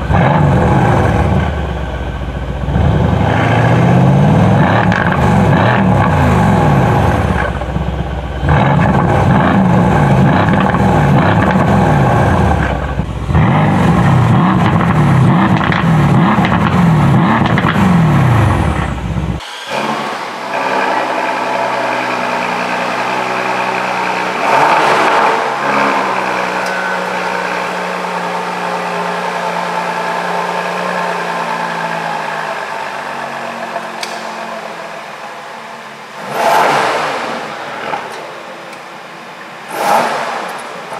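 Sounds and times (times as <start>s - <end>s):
car engine idling: 0.0s - 40.9s
car engine revving: 0.0s - 40.9s.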